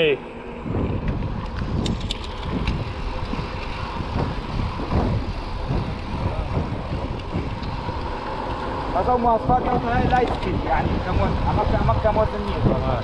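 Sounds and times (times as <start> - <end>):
tyre noise on asphalt: 0.0 - 13.0
wind buffeting microphone: 0.0 - 13.0.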